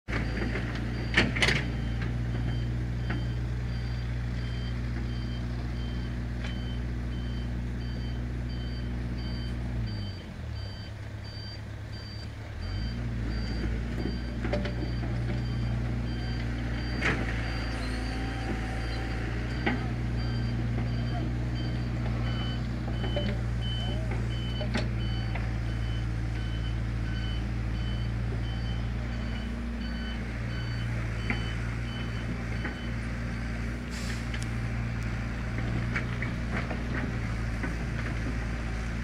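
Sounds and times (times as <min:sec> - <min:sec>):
diesel truck engine running: 0:00.1 - 0:39.0
reversing alarm beeping: 0:00.2 - 0:33.0.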